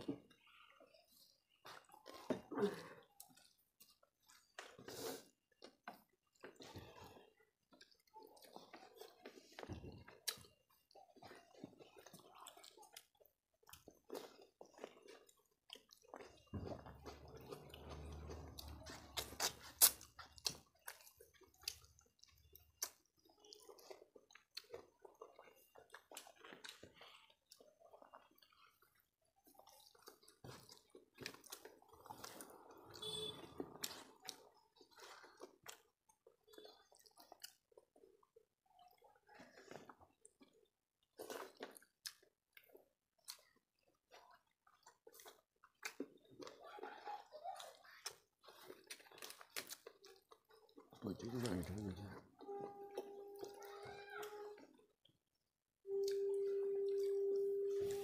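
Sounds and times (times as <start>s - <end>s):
people chewing and eating: 0.0s - 58.0s.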